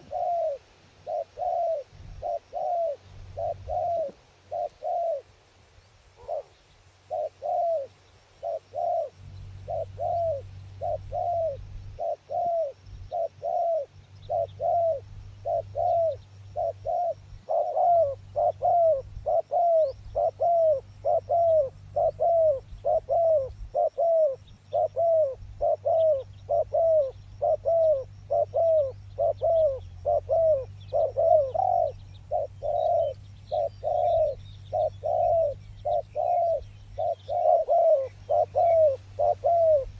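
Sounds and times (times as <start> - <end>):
dove cooing: 0.0 - 5.4, 6.2 - 39.9.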